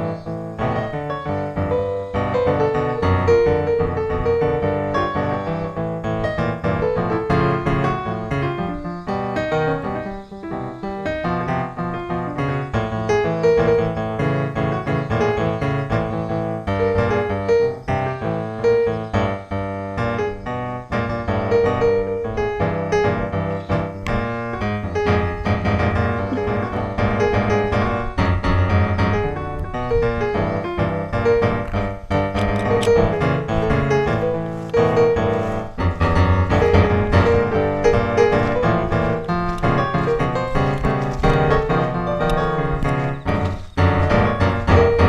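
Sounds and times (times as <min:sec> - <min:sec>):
piano music: 0:00.0 - 0:45.0.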